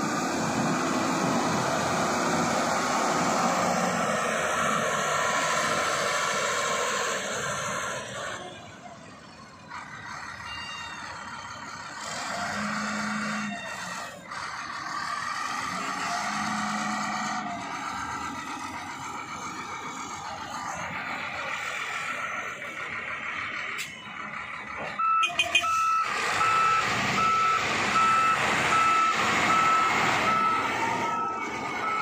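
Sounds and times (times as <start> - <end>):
wheel loader diesel engine: 0.0 - 32.0.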